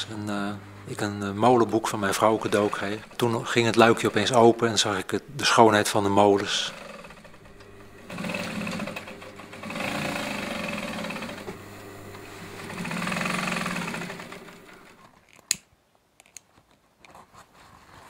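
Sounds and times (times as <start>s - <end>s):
industrial sewing machine stitching: 0.0s - 15.1s
motor humming: 0.0s - 15.1s.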